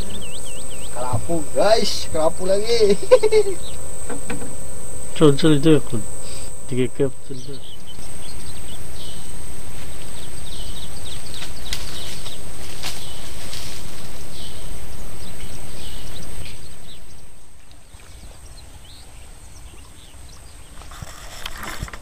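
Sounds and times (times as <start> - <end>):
quiet outdoor sound: 0.0 - 22.0.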